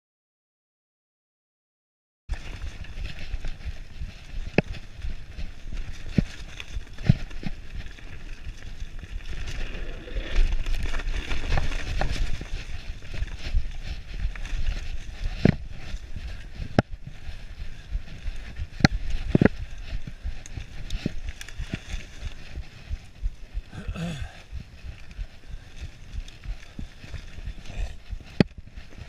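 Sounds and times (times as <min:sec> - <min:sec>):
tyres rolling through dry leaves: 0:02.3 - 0:29.0.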